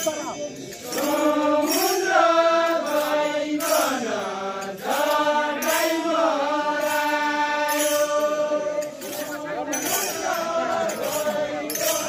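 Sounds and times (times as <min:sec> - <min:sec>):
men singing folk chant: 0:00.0 - 0:12.0.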